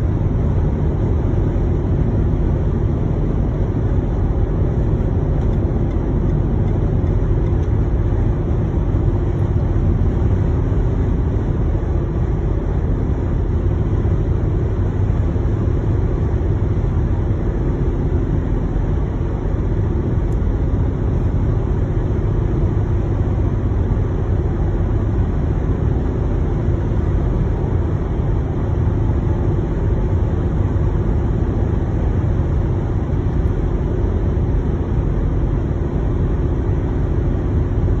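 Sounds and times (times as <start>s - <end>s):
car driving from inside cabin: 0.0s - 38.0s.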